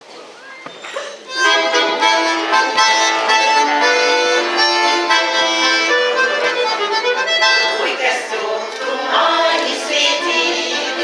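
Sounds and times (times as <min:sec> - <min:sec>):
accordion playing chords and melody: 0:01.3 - 0:11.0.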